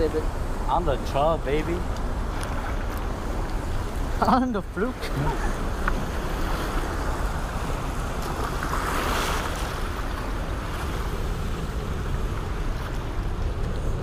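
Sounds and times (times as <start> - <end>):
rushing whitewater roar: 0.0 - 14.0
wind buffeting microphone: 0.0 - 14.0.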